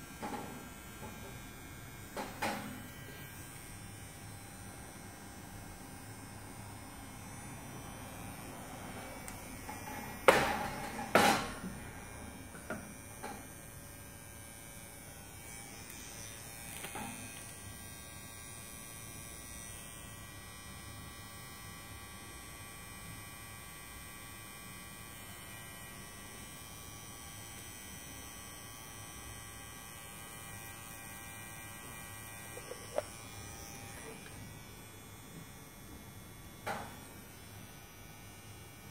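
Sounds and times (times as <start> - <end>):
tattoo pen buzzing: 0.2 - 38.9.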